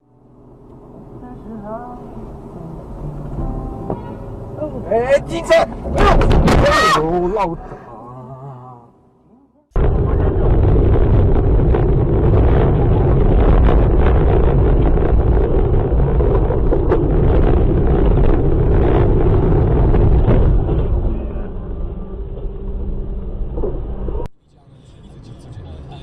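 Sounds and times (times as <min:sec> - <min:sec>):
vehicle and wind rumble: 0:00.0 - 0:08.0, 0:09.8 - 0:26.0.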